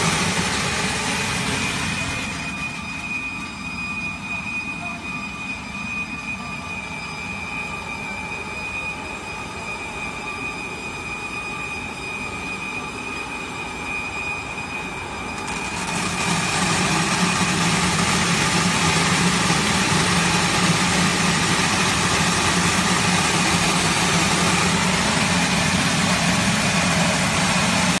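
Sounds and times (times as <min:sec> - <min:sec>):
machine hum with high whine: 0:00.0 - 0:28.0.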